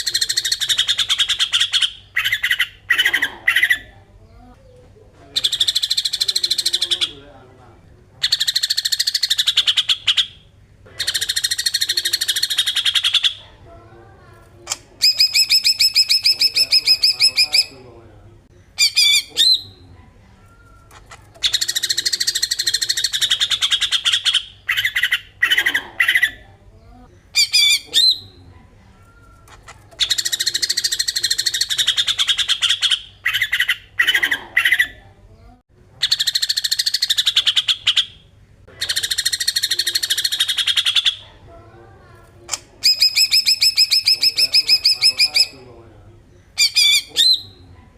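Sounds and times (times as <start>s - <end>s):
bird chattering song: 0.0s - 7.3s, 8.2s - 13.5s, 14.7s - 17.9s, 18.8s - 19.8s, 20.9s - 26.4s, 27.3s - 28.4s, 29.4s - 35.0s, 36.0s - 41.3s, 42.5s - 45.8s, 46.6s - 47.7s.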